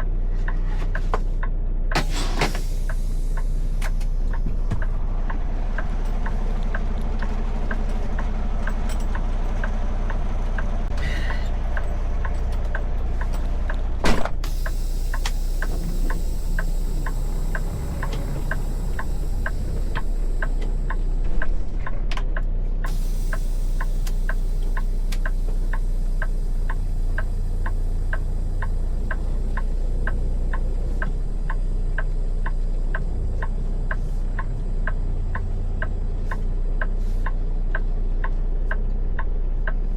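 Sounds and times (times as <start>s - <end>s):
low rumble: 0.0s - 37.8s.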